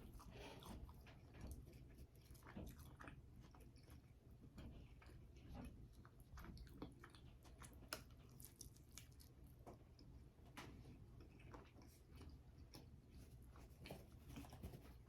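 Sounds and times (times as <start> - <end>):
person chewing food: 0.0 - 13.8.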